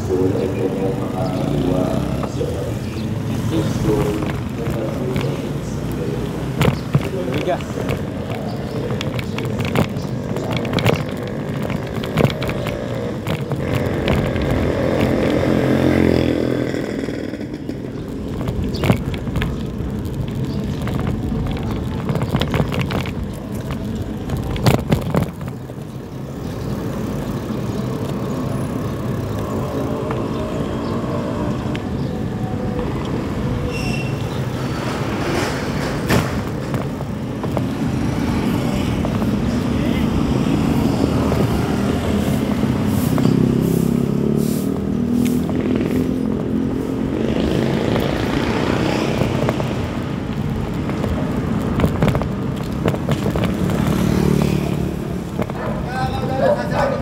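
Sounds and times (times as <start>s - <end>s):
motorcycle engines passing: 0.0s - 57.0s
wind and tyre noise: 0.0s - 57.0s
bicycle knocks and rattles: 2.4s - 43.6s, 45.0s - 56.4s.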